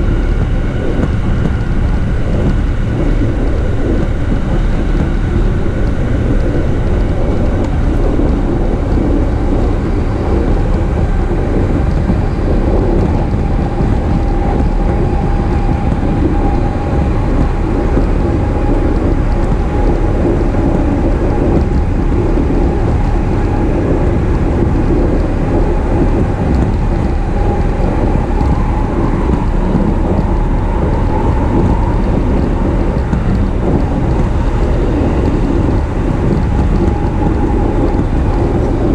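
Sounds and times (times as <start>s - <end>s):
faint motor whine: 0.0s - 38.9s
train wheels rumbling on rail: 0.0s - 38.9s.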